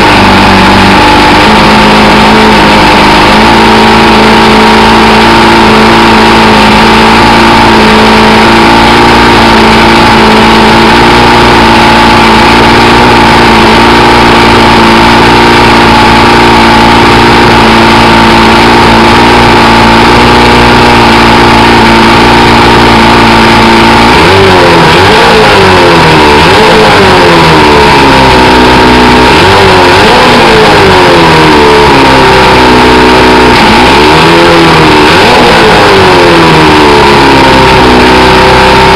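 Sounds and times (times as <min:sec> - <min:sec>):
outboard motor idling and revving: 0:00.0 - 0:38.9.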